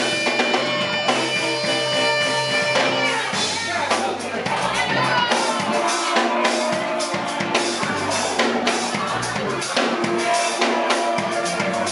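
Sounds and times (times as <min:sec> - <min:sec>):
blues band playing: 0:00.0 - 0:11.9.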